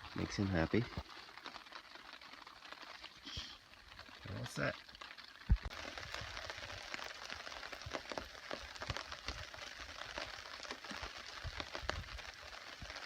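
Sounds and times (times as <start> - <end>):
rain on a tarp: 0.0 - 13.0
sharp ticks and crackles: 0.0 - 13.0.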